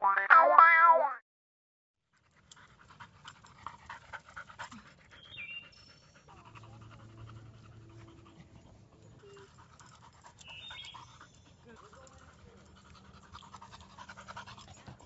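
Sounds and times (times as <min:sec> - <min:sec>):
dog panting: 0:02.1 - 0:15.0.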